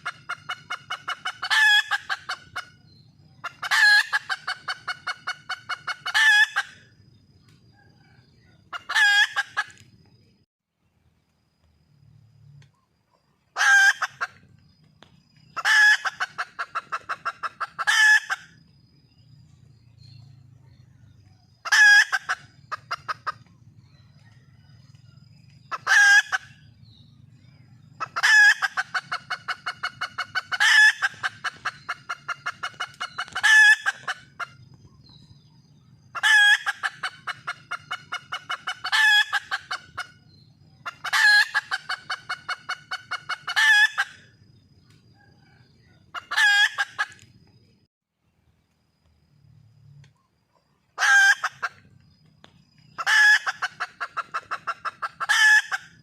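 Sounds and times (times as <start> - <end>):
hen clucking: 0.0 - 10.1, 13.4 - 18.8, 20.0 - 47.4, 50.5 - 56.0.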